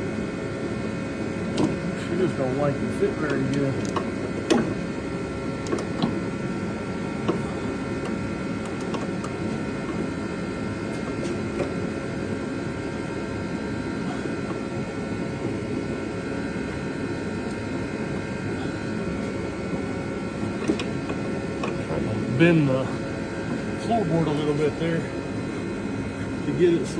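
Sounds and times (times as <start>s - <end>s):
mechanical hum: 0.0s - 26.9s.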